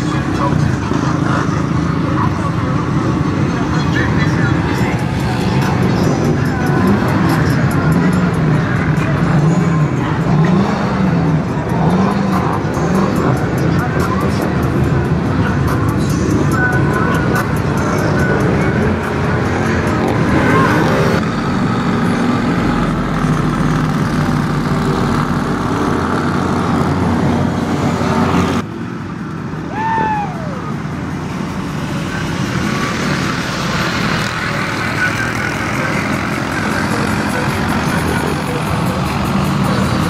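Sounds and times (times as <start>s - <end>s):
atv engine running: 0.0s - 40.0s
truck engine running: 0.0s - 40.0s.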